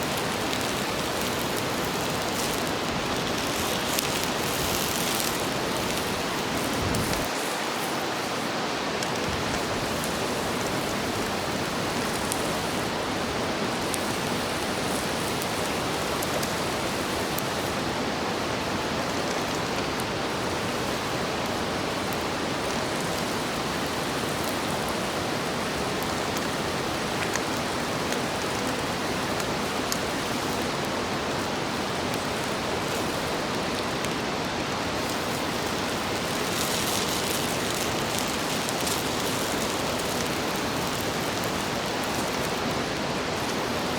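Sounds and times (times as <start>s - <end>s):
faint fire crackles: 0.0s - 43.9s
food sizzling on a griddle: 0.0s - 43.9s.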